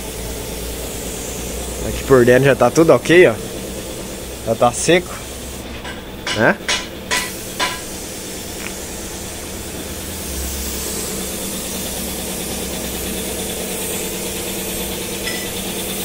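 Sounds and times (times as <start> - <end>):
low machine hum: 0.0 - 16.0
spray gun hissing: 0.0 - 16.0.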